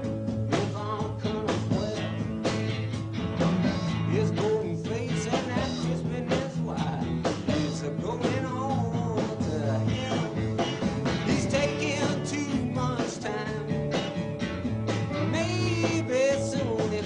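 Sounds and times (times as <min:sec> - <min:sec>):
bass notes: 0:00.0 - 0:17.0
drums steady beat: 0:00.0 - 0:17.0
guitar: 0:00.0 - 0:17.0
rock band playing: 0:00.0 - 0:17.0.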